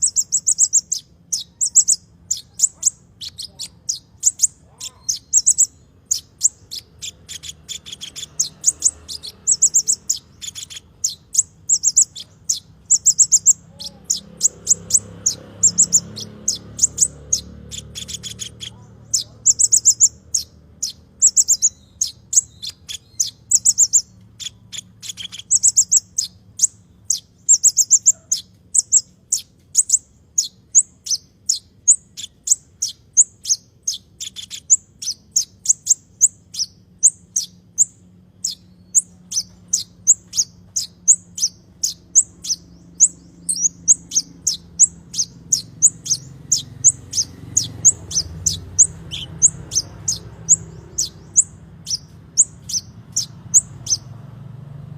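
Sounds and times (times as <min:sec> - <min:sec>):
faint low hum: 0:00.0 - 0:54.9
songbird chirping: 0:00.0 - 0:54.9.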